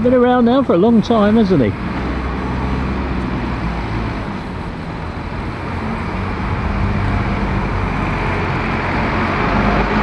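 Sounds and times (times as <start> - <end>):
diesel bus engine running: 0.0 - 10.0
tyre and road noise: 0.0 - 10.0.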